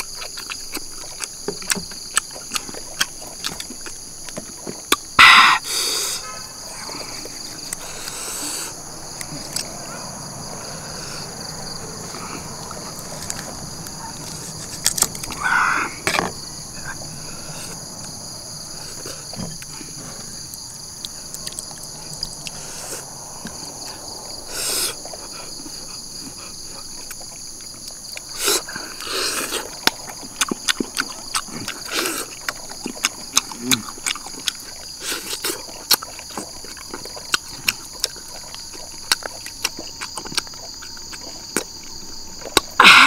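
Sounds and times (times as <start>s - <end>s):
insects chirring: 0.0s - 43.0s
person chewing and eating: 0.0s - 43.0s.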